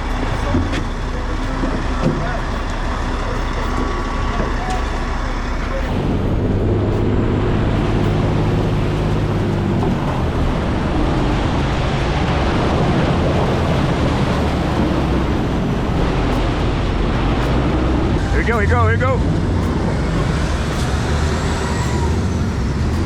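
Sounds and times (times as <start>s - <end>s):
boat engine running: 0.0s - 23.0s
rushing water: 0.0s - 23.0s
wind noise: 0.0s - 23.0s.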